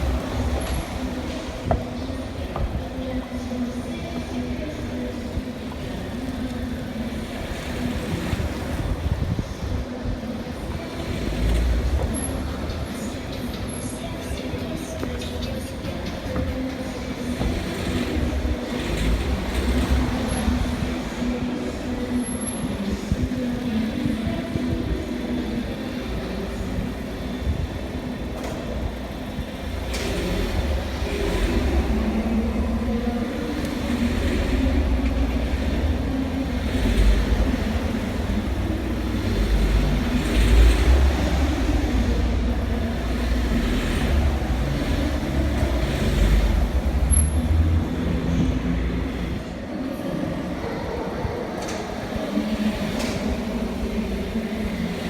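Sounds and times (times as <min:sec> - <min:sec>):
car engine droning: 0:00.0 - 0:55.0.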